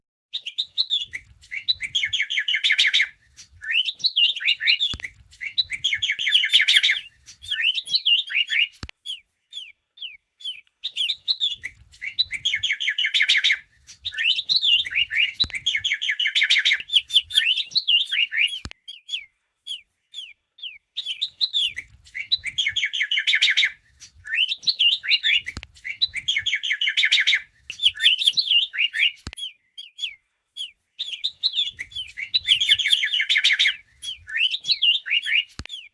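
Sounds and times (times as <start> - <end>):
songbird chirping and warbling: 0.4 - 30.2, 31.0 - 35.9.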